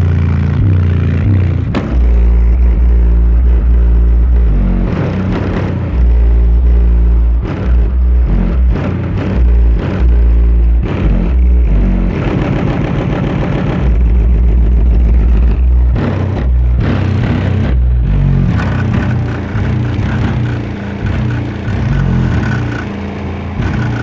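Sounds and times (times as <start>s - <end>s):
bass-heavy music through subwoofer: 0.0s - 24.0s.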